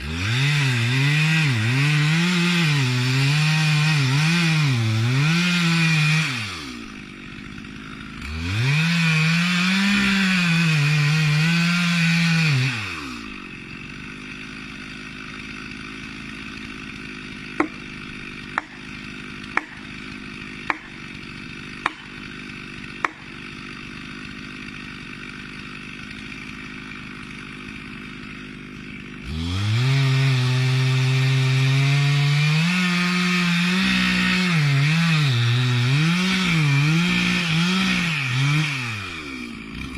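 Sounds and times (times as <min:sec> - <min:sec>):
chainsaw cutting and revving: 0:00.0 - 0:39.9
chainsaw idling: 0:00.0 - 0:39.9.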